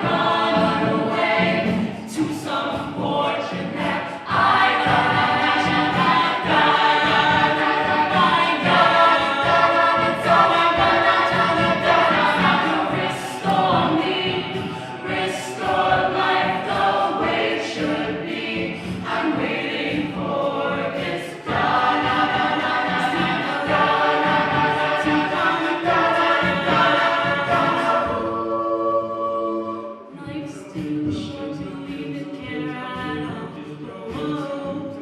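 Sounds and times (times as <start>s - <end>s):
a cappella group singing: 0.0s - 35.0s.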